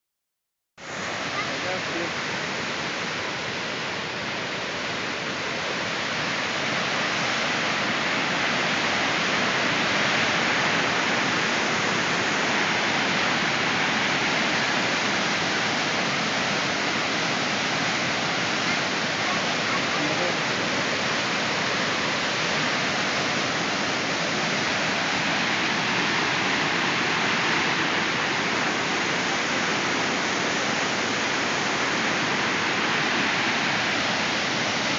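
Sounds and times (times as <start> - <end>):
water rushing over a weir: 0.8 - 34.9.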